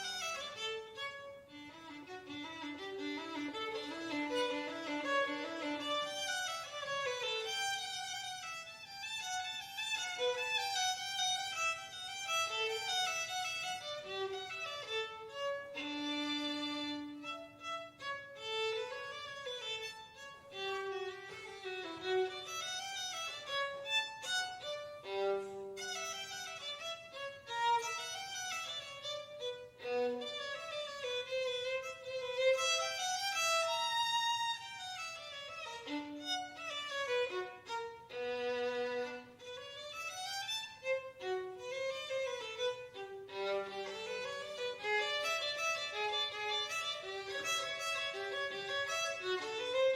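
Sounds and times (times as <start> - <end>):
violin melody: 0.0 - 49.9.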